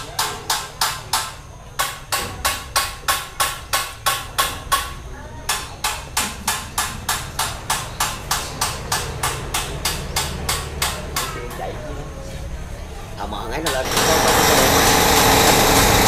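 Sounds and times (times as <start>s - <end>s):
hammering blows: 0.0s - 11.4s, 13.6s - 16.0s.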